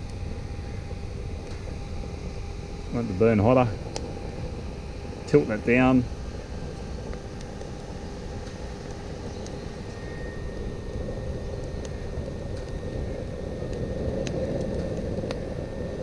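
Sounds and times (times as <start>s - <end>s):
faint steady whine: 0.0s - 16.0s
fire crackling: 0.0s - 16.0s
wood fire roaring: 0.0s - 16.0s.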